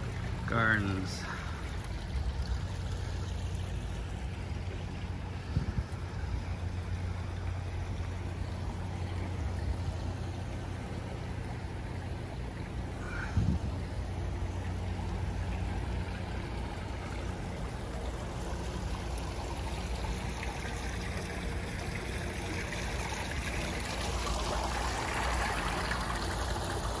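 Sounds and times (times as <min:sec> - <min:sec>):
fountain water trickling and splashing: 0:00.0 - 0:27.0
steady low hum: 0:00.0 - 0:27.0.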